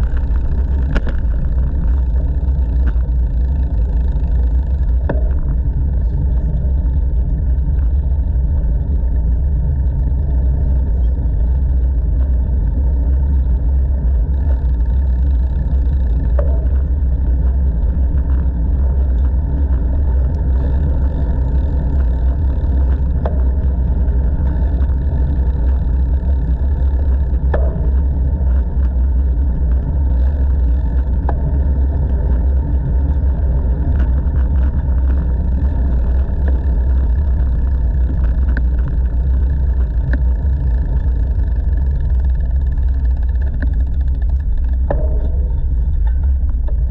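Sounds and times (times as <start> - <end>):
faint ticks: 0.0 - 46.9
loud low wind noise: 0.0 - 46.9.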